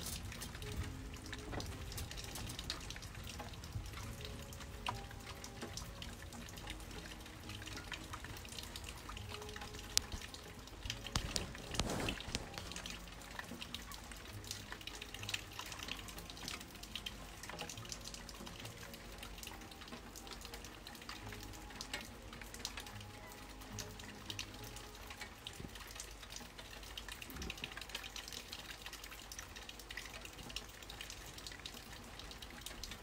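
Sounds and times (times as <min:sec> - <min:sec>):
rain dripping and pattering: 0:00.0 - 0:33.0.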